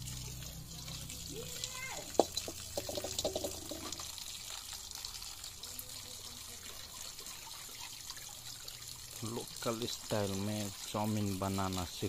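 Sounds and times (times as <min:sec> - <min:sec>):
tap water trickling into bowl: 0:00.0 - 0:12.0.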